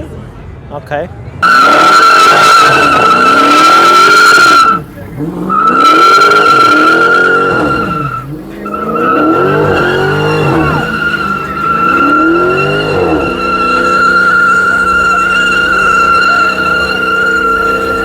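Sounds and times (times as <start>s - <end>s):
car engine revving: 1.4s - 18.0s
tyres squealing: 1.4s - 18.0s.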